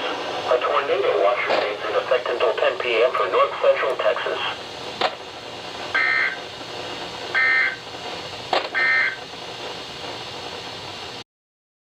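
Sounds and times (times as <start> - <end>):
radio hiss: 0.0 - 10.6.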